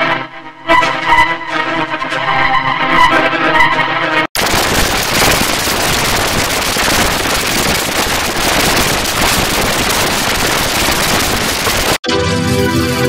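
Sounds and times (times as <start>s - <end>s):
distorted crackling noise: 0.0s - 12.0s.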